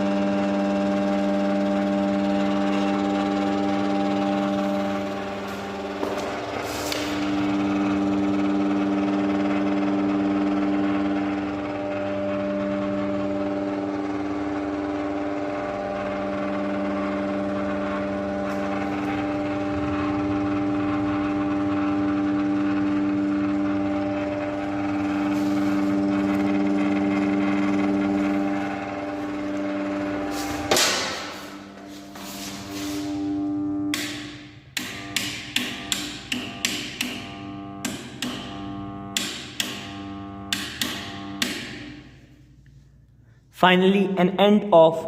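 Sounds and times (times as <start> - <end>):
ceiling fan motor humming: 0.0 - 43.8.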